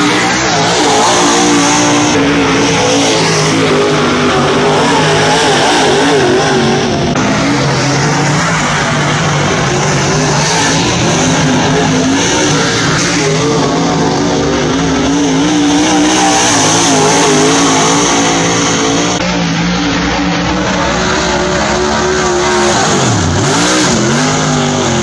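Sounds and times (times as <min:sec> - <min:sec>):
race car engines running hard: 0:00.0 - 0:25.0.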